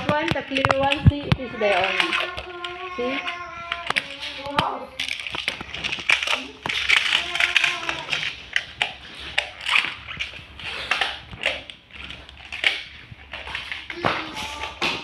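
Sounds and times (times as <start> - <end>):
plastic tiles clicking and clattering: 0.0 - 15.0.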